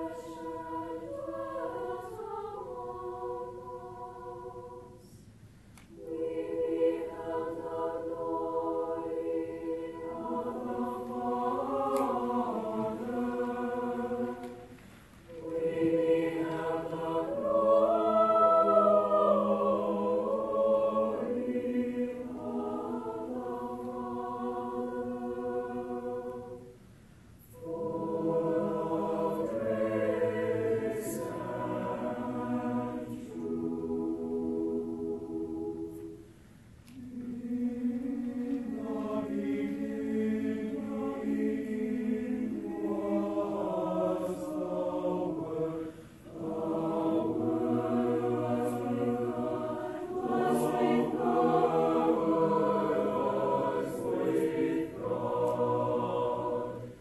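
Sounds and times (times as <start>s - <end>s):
choir singing sustained chords: 0.0s - 57.0s.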